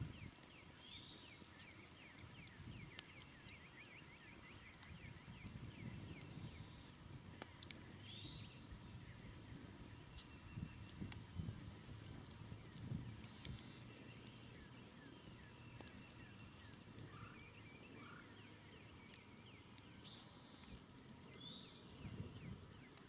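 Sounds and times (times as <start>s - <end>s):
campfire crackling: 0.0s - 23.0s
songbird chirping: 0.0s - 23.0s.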